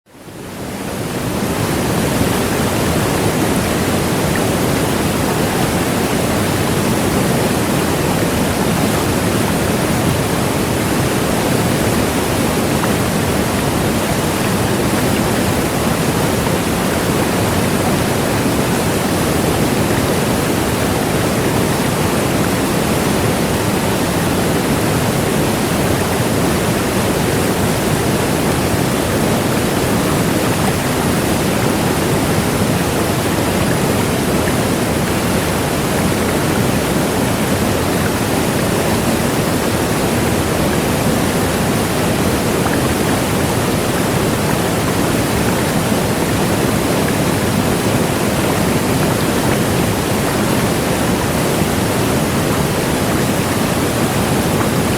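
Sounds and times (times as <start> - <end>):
waterfall rushing: 0.1 - 54.9.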